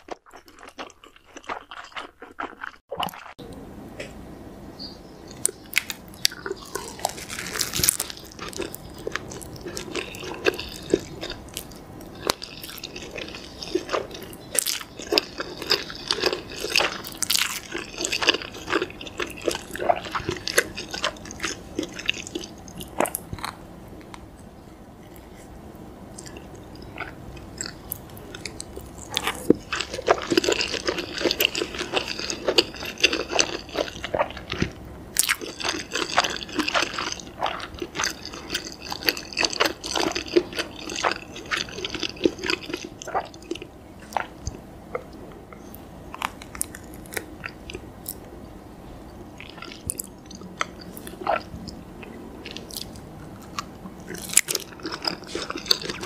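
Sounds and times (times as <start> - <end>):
biting and chewing food: 0.0 - 3.4, 5.3 - 25.5, 26.1 - 48.2, 49.4 - 56.0.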